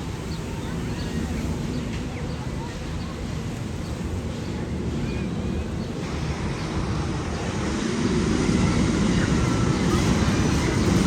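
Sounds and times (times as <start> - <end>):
roller coaster rumbling on track: 0.0 - 11.0
wind buffeting microphone: 0.0 - 11.0.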